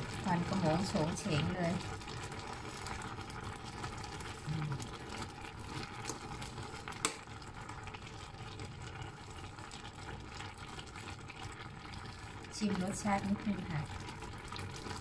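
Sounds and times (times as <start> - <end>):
pot of curry simmering: 0.0 - 15.0.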